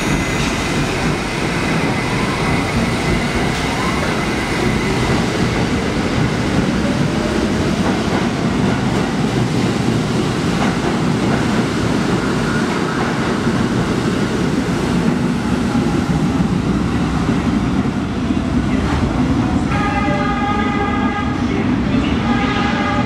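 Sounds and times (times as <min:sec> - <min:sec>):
subway train wheels on rails: 0:00.0 - 0:23.0.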